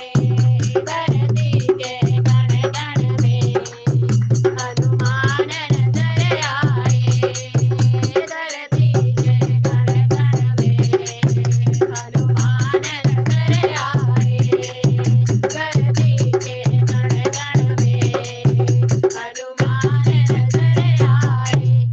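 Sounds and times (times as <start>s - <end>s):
fast dense percussion: 0.0s - 21.9s
deep drum beat: 0.1s - 8.2s, 8.8s - 21.9s.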